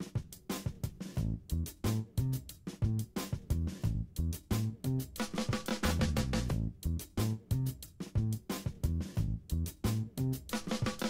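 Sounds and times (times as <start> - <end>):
bass: 0.0 - 11.0
drum kit beat: 0.0 - 11.0.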